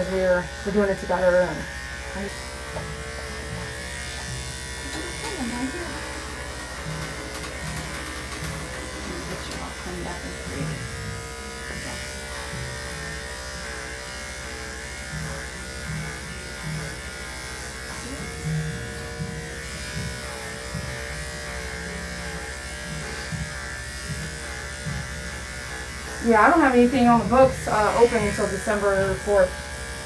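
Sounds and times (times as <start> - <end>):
electric clippers buzzing: 0.0 - 30.0.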